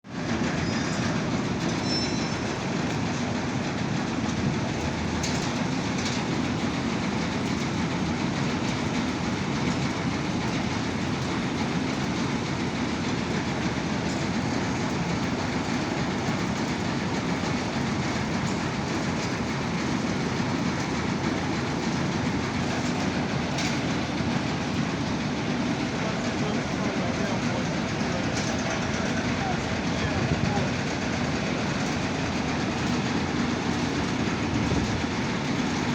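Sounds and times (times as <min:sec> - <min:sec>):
combine harvester rumbling and rattling: 0:00.0 - 0:35.9.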